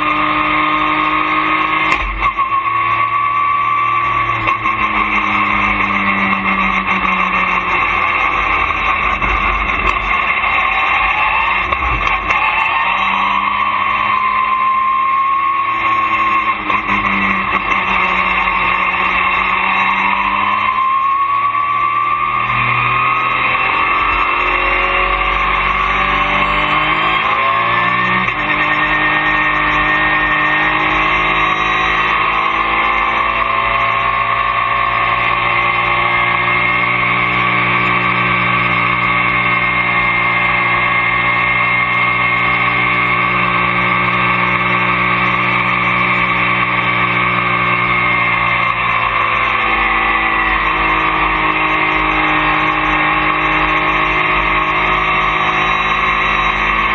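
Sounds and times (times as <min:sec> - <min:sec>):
race car engine revving: 0:00.0 - 0:56.9
road and wind noise: 0:00.0 - 0:56.9.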